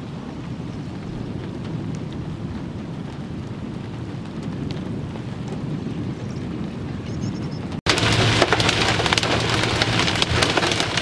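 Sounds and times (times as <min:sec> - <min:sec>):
wind blowing over microphone: 0:00.0 - 0:11.0.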